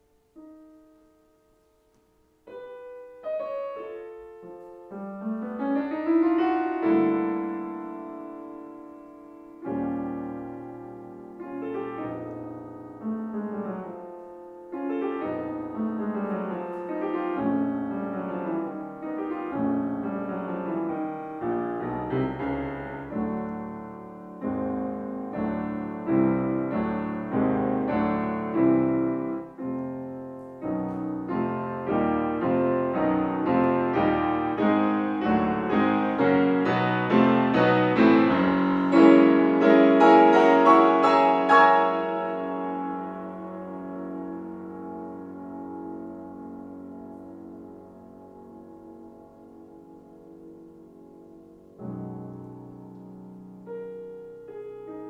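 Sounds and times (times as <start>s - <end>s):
solo classical piano piece: 0.0s - 55.0s.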